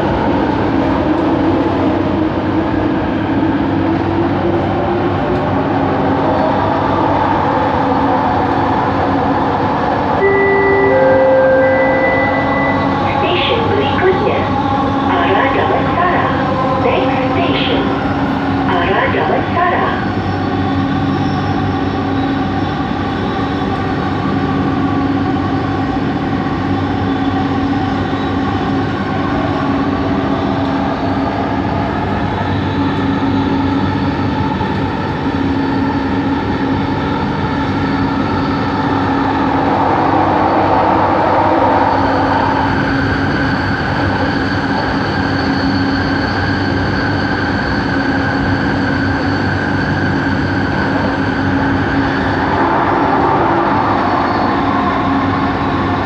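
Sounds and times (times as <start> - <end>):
metro car motor hum: 0.0 - 56.0.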